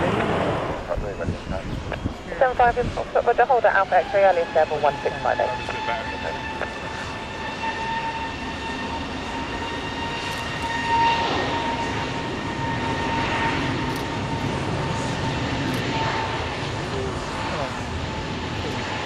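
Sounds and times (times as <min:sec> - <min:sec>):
jet engines at high thrust: 0:00.0 - 0:19.0.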